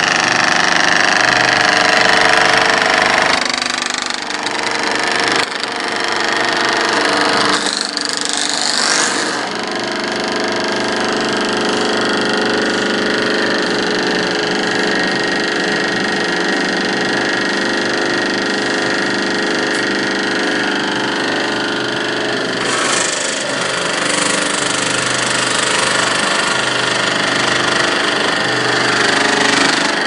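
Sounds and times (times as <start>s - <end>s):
power hammer hammering sheet metal: 0.0s - 30.0s.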